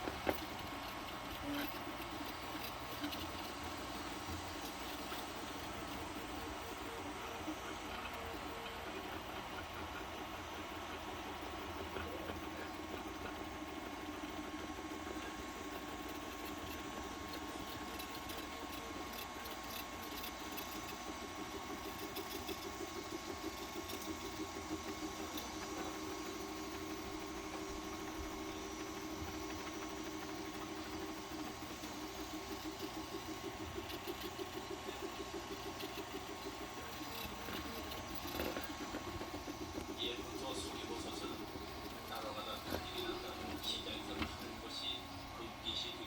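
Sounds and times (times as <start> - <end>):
three d printer motors whirring: 0.0 - 46.0.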